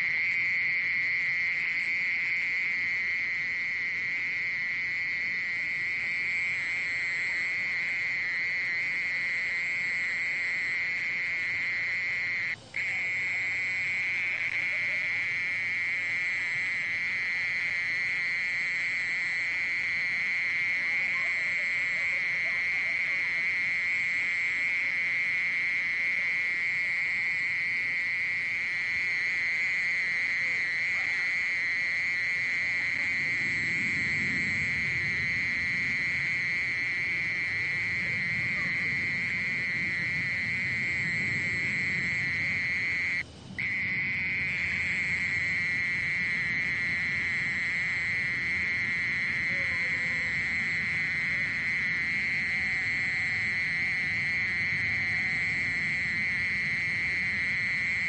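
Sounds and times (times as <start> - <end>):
mole cricket trilling: 0.0 - 58.0.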